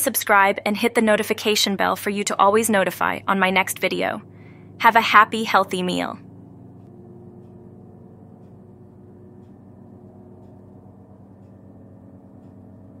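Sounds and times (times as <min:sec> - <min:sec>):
soft sustained low chords: 0:00.9 - 0:13.0.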